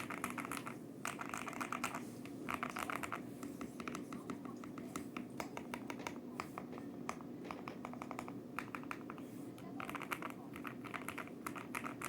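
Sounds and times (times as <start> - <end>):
mechanical keyboard typing: 0.0 - 3.2, 3.8 - 12.0.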